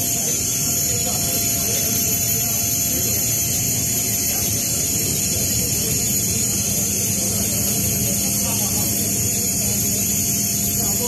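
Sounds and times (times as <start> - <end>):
jet turbine whine and rush: 0.0 - 11.0.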